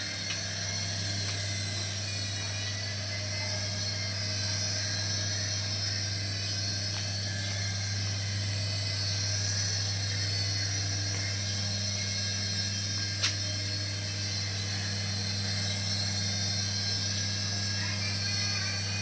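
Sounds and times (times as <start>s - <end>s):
small electric motor whine: 0.0s - 19.0s.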